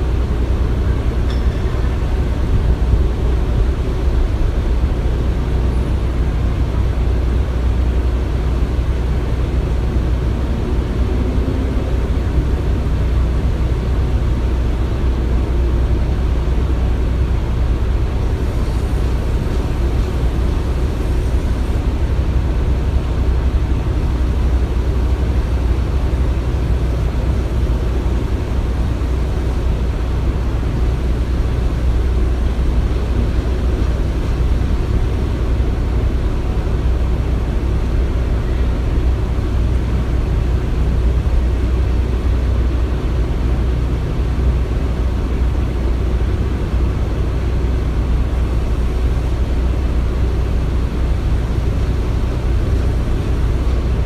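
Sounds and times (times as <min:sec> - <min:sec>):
low machinery rumble: 0:00.0 - 0:54.0.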